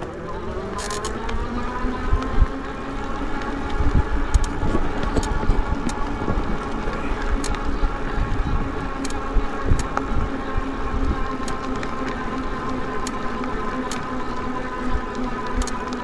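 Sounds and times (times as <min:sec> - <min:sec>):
electric bike motor whining: 0:00.0 - 0:16.0
wind rumbling on microphone: 0:00.0 - 0:16.0.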